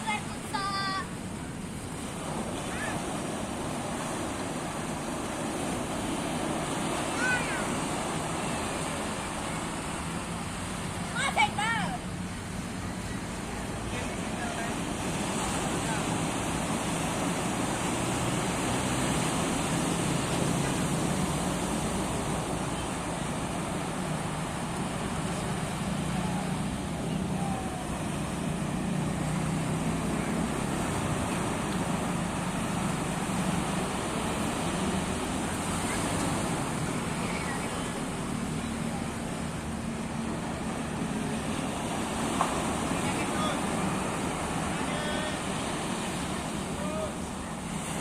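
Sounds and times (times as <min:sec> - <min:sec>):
road traffic hum: 0:00.0 - 0:48.0
sea surf: 0:00.0 - 0:48.0
wind: 0:00.0 - 0:48.0.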